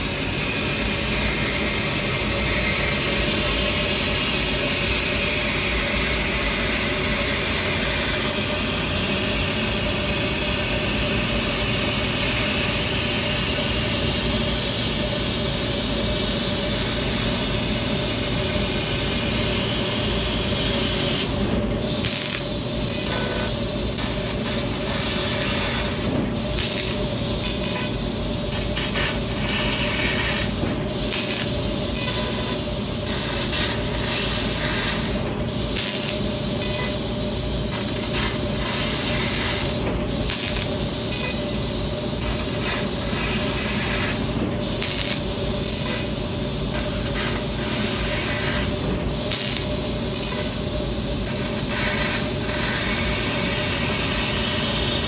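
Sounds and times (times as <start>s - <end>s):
laser cutter gas jet hissing: 0.0s - 55.0s.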